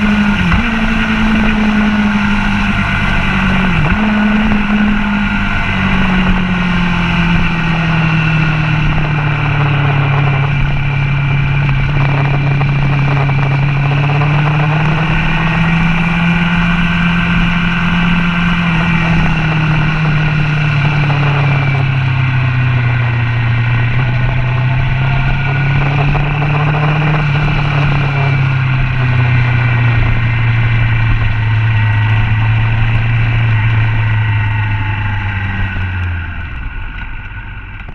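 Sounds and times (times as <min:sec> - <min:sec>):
motorcycle engine at low revs: 0:00.0 - 0:37.9
wind noise: 0:00.0 - 0:37.9.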